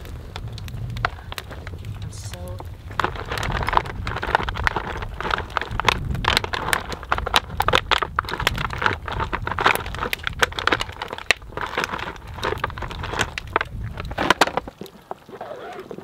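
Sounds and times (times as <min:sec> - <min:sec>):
campfire crackling and popping: 0:00.0 - 0:16.0
plastic package crinkling: 0:01.0 - 0:16.0.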